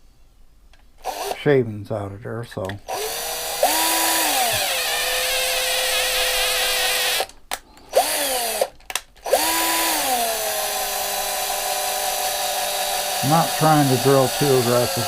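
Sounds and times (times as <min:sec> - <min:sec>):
electric drill whining: 0:01.0 - 0:01.4, 0:02.9 - 0:15.0.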